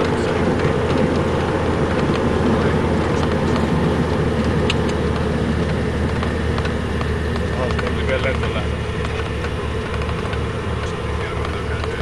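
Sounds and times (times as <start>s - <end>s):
vehicle engine drone from inside: 0.0s - 12.0s.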